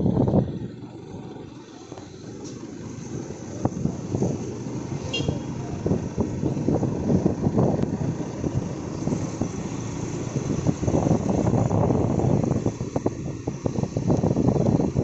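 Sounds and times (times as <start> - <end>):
vehicle rumble from on board: 0.0 - 15.0.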